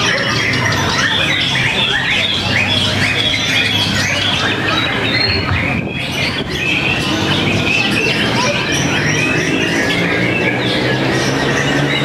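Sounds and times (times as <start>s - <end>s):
birds singing whistles and chirps: 0.0s - 12.0s.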